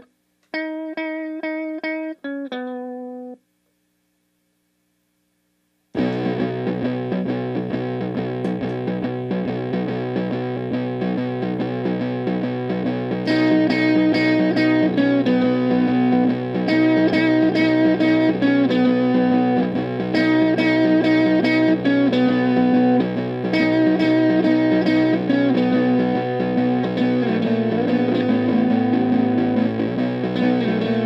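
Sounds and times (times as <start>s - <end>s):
distorted electric guitar riff: 5.9s - 31.0s.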